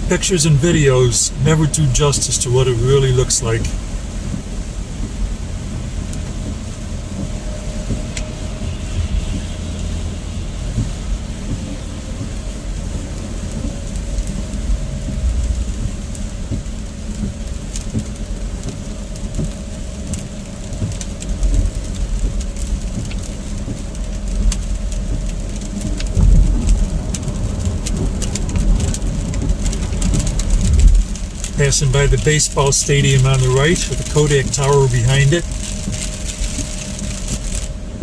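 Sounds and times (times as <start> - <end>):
car road and engine rumble: 0.0 - 38.0
raindrops ticking on car roof: 0.0 - 38.0.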